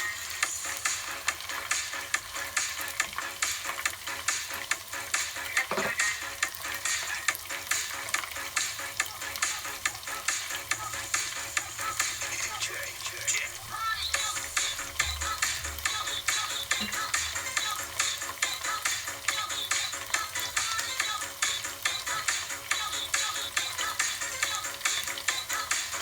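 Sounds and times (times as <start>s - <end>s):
chicken frying in hot oil: 0.0s - 26.0s.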